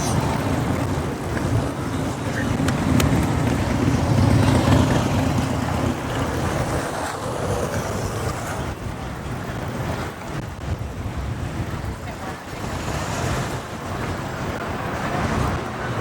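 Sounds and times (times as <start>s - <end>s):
motorcycle engine and road rumble: 0.0s - 16.0s
wind on microphone: 0.0s - 16.0s.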